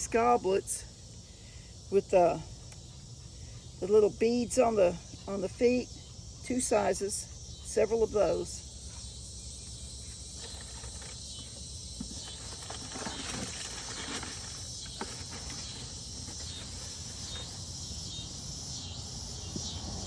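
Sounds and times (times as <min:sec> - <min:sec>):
cicada chorus drone: 0:00.0 - 0:20.0.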